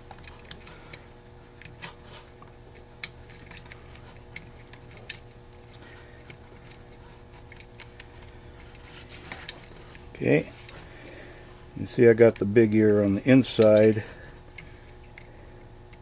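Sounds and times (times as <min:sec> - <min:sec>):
small metal parts clicking: 0:00.0 - 0:10.8, 0:13.4 - 0:16.0.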